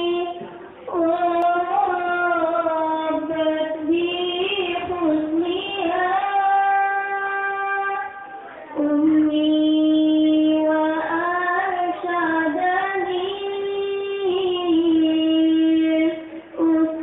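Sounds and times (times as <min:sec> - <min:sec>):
girl singing devotional song: 0:00.0 - 0:17.0.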